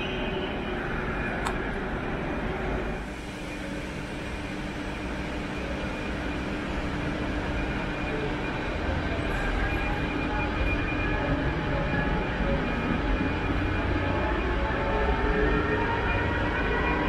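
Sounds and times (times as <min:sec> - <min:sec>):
electric train humming: 0:00.0 - 0:17.0
train rumble: 0:00.0 - 0:17.0.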